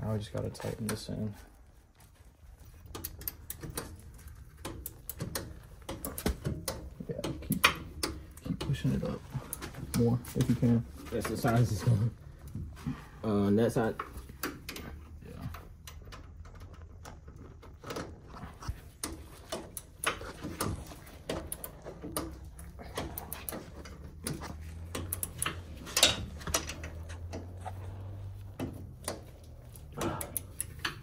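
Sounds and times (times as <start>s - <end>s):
steady low hum: 0.0s - 31.0s
hand tools clicking and knocking: 2.0s - 13.1s, 13.7s - 31.0s.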